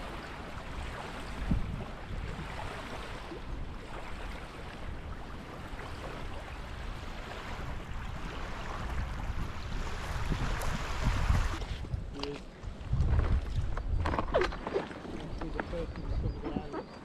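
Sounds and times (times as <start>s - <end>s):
waves lapping on shingle: 0.0s - 17.0s
wind rumbling on microphone: 0.0s - 17.0s.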